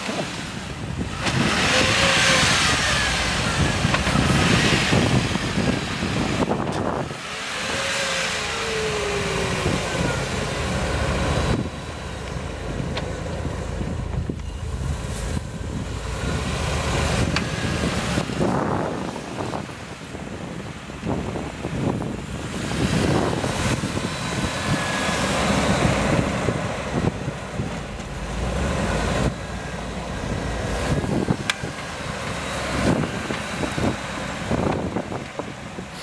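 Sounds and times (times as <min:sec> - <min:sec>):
car engine revving: 0:00.0 - 0:36.0
tyres spinning in snow: 0:00.0 - 0:36.0.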